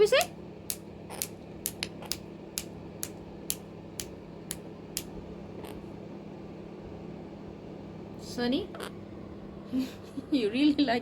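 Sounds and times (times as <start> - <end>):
room heater humming: 0.0 - 11.0.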